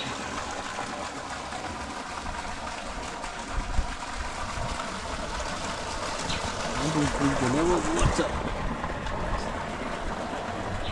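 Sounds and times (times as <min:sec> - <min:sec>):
water gushing into pond: 0:00.0 - 0:10.9.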